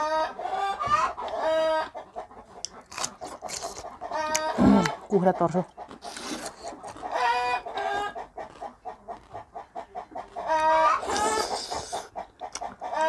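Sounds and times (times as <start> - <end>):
chicken clucking and squawking: 0.0 - 13.0.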